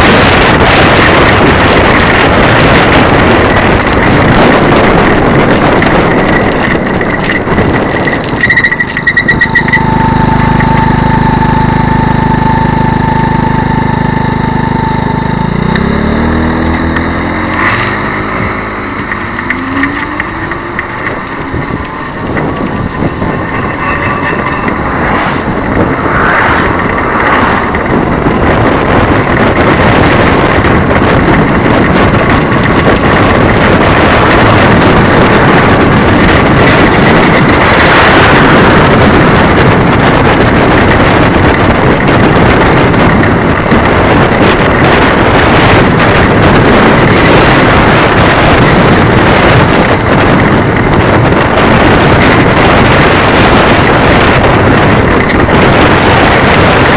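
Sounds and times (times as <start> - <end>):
faint engine whine: 0.0 - 56.9
wind rushing over microphone: 0.0 - 56.9.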